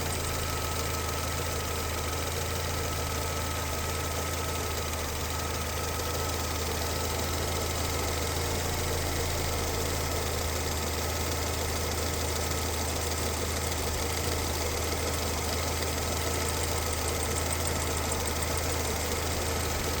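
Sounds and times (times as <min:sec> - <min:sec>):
engine running with strange noise: 0:00.0 - 0:20.0.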